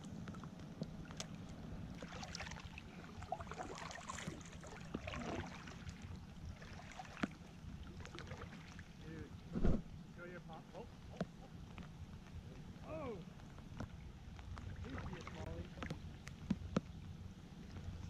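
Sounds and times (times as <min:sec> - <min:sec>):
drips and sharp ticks: 0:00.0 - 0:09.3, 0:10.2 - 0:18.0
light rain pattering on water: 0:00.0 - 0:18.0
water lapping at hull: 0:00.0 - 0:18.0.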